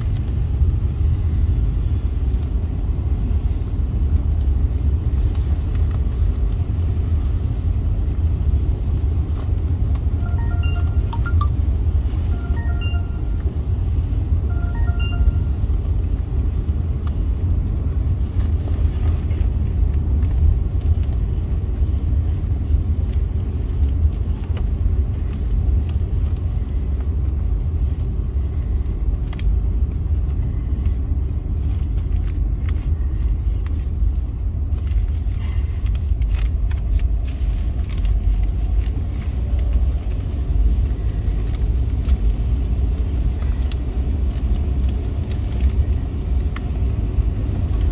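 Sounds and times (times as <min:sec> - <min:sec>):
car tyre noise on wet road: 0:00.0 - 0:47.9.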